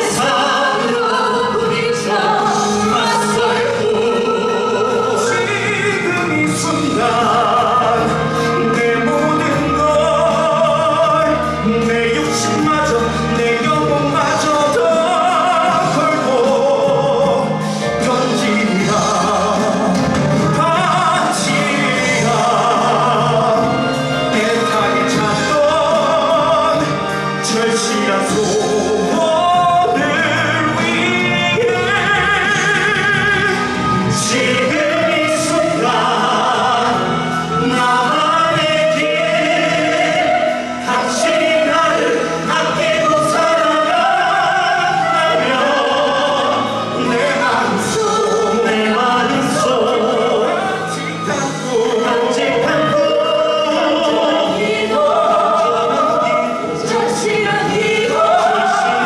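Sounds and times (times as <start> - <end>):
instrumental accompaniment: 0.0 - 59.0
singers performing a ballad: 0.0 - 59.0.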